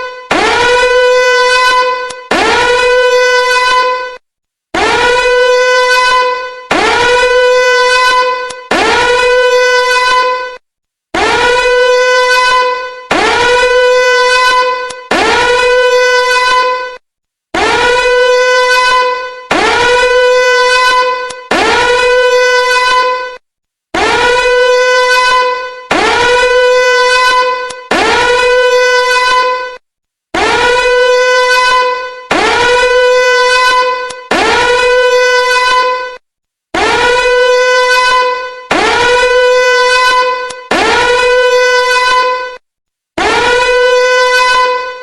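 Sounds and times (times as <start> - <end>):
buzzy warning alarm horn: 0.0 - 4.2, 4.8 - 10.6, 11.2 - 17.0, 17.6 - 23.4, 24.0 - 29.8, 30.4 - 36.2, 36.8 - 42.6, 43.2 - 45.0.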